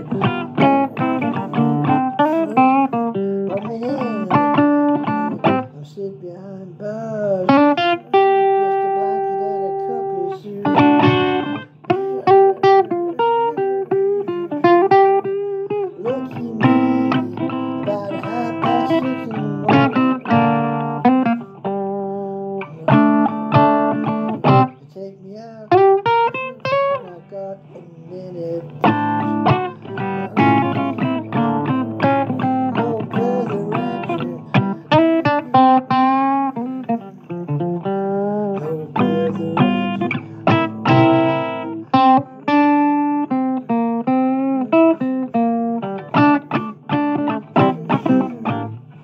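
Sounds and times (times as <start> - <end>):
blues guitar: 0.0 - 49.0.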